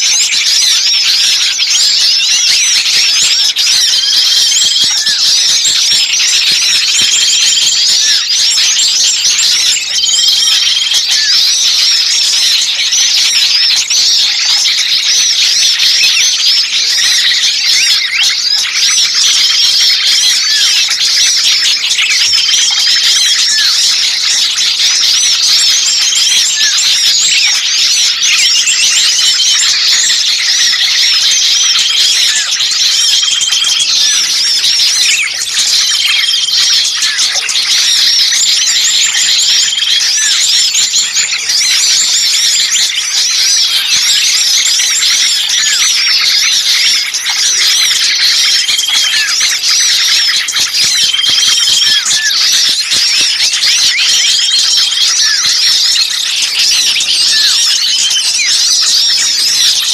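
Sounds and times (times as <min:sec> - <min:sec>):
songbirds chirping chorus: 0:00.0 - 0:55.5.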